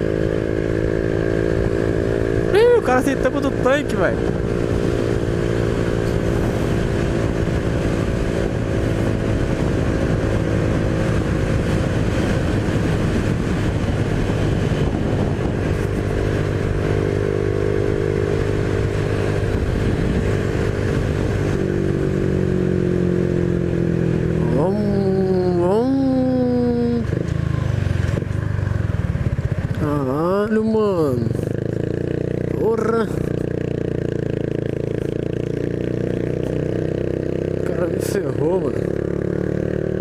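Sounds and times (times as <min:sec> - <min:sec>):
motorcycle engine cruising: 0:00.0 - 0:40.0
wind and road rush: 0:00.0 - 0:40.0.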